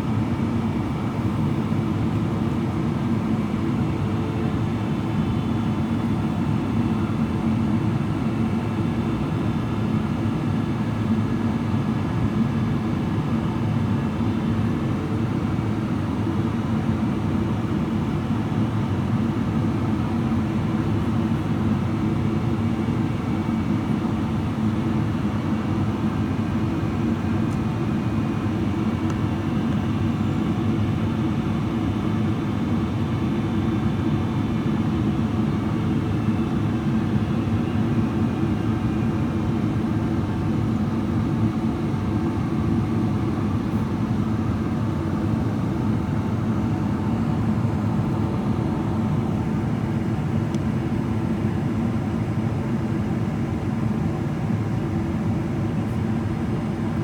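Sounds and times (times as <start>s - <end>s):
faint steady whines: 0.0s - 57.0s
low jet engine hum: 0.0s - 57.0s.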